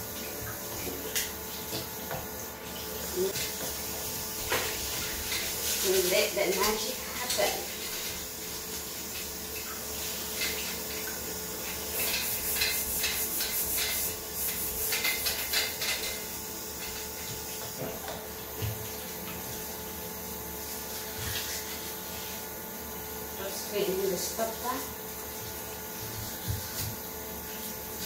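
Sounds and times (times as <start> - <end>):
sponge scrubbing sink: 0.0 - 28.0.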